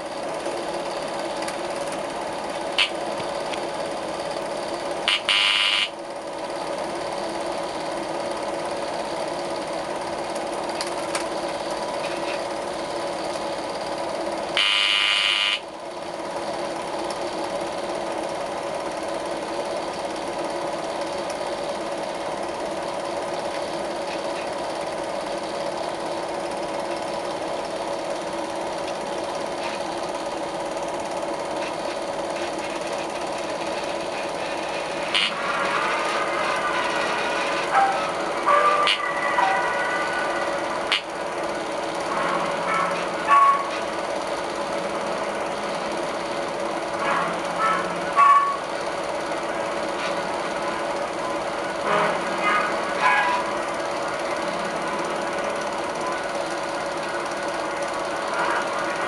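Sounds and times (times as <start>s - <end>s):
film projector hum and clatter: 0.0s - 59.0s.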